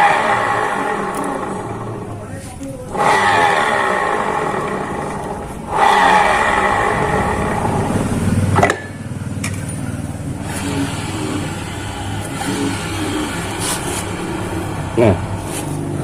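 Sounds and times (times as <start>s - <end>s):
wheel spinning with harsh whir: 0.0s - 16.0s.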